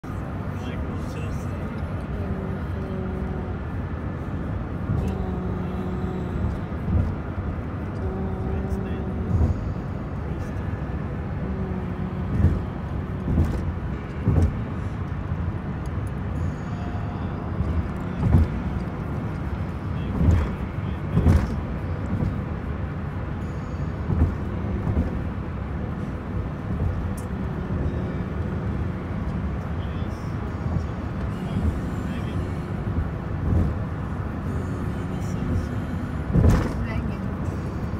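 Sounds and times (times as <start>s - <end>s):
car cabin rumble: 0.0s - 37.9s.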